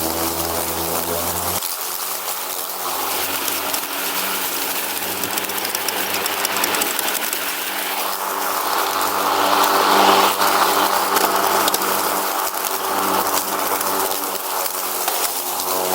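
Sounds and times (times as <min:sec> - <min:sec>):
broad rushing noise: 0:00.0 - 0:15.9
riding lawn mower engine: 0:00.0 - 0:15.9.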